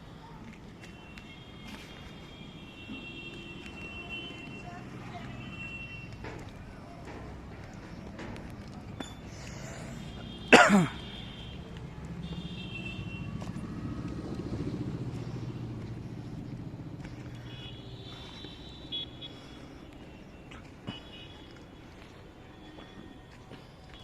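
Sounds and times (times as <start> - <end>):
vehicle engine hum passing: 3.3 - 23.7.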